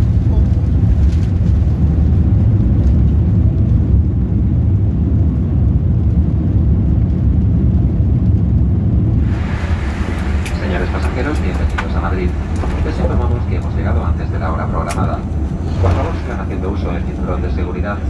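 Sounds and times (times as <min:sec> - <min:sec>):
low rumble of wheels and engines: 0:00.0 - 0:18.0.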